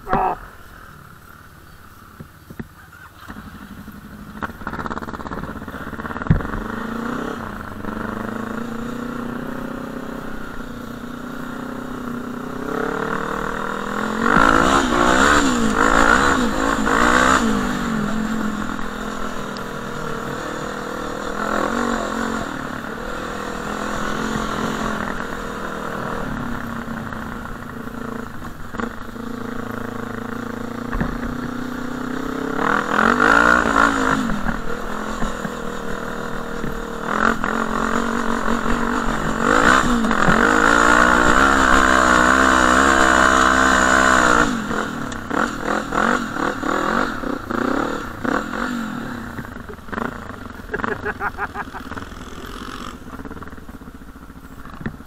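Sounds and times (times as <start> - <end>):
quad bike engine revving: 2.8 - 55.0.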